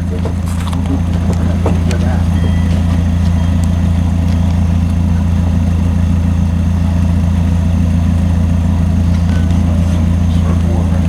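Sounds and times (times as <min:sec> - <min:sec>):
diesel locomotive engine idling: 0:00.0 - 0:11.0.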